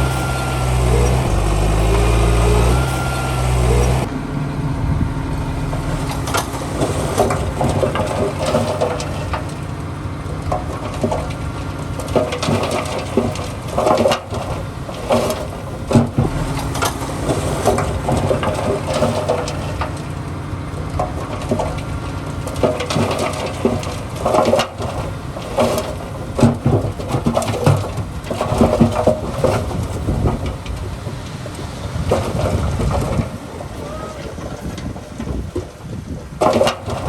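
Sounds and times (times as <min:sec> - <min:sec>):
bulldozer diesel engine: 0:00.0 - 0:37.0
steel tracks clanking: 0:00.0 - 0:37.0.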